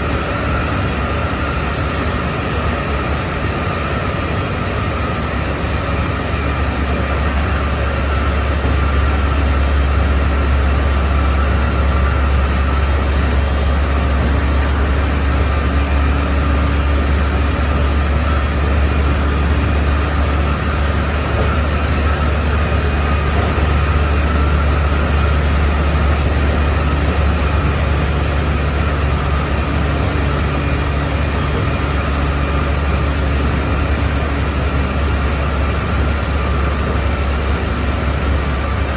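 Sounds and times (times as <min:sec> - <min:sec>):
high motor whine: 0:00.0 - 0:38.9
train wheels rumbling on rail: 0:00.0 - 0:38.9.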